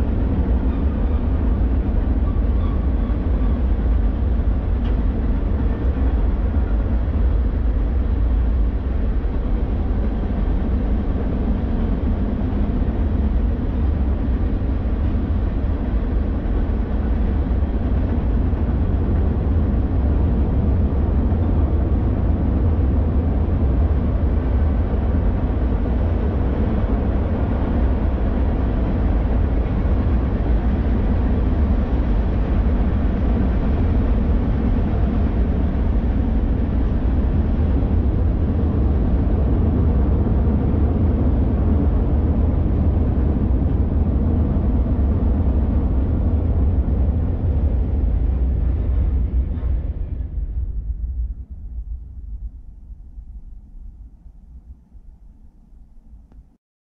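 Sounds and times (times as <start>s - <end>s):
train wheels rumbling on rail: 0.0s - 54.6s.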